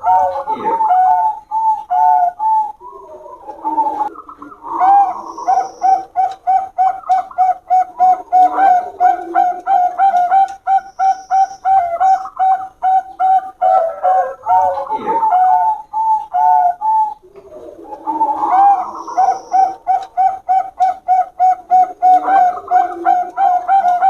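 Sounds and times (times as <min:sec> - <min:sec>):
doves cooing: 0:00.0 - 0:24.0.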